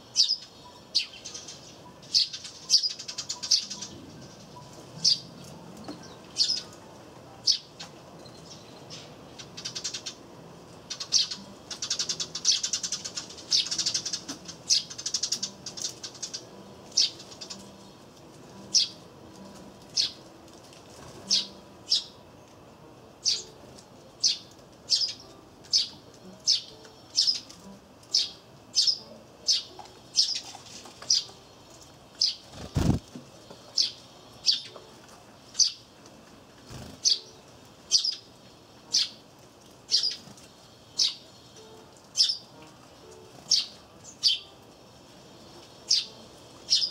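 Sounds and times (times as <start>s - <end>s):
sparrows twittering: 0.0s - 20.3s, 21.0s - 22.3s, 23.1s - 35.9s, 36.6s - 39.2s, 39.8s - 46.9s
sparrows chirping: 0.0s - 46.9s.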